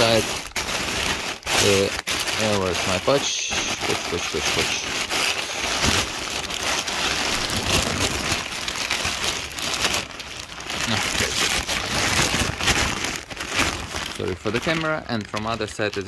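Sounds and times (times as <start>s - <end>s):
fabric rustling against microphone: 0.0s - 15.0s.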